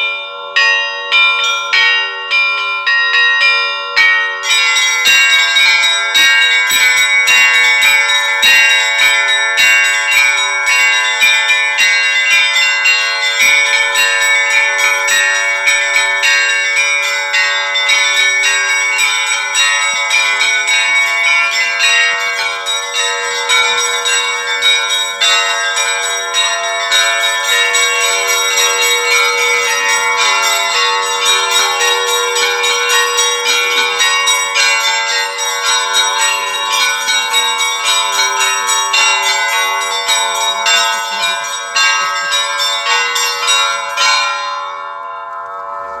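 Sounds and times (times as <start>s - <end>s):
church bells rung fast: 0.0s - 46.0s.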